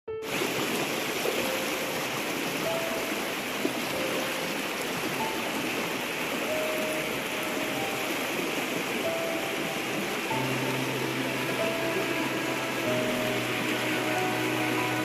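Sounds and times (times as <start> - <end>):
floodwater rushing down street: 0.2 - 15.0.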